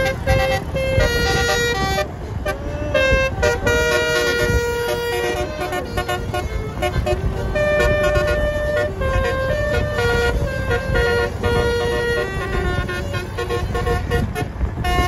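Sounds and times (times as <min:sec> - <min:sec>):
musical bus horn notes: 0:00.0 - 0:15.0.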